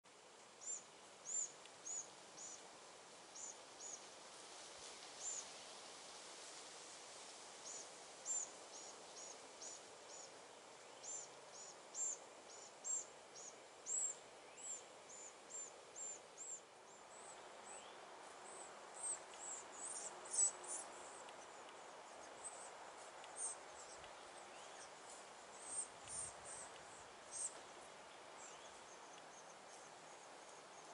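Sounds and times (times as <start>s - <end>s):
faint outdoor hiss: 0.0s - 30.9s.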